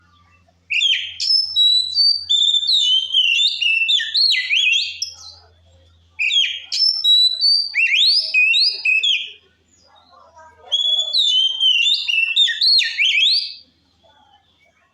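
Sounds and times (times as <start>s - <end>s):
magpie-robin singing: 0.1s - 14.6s.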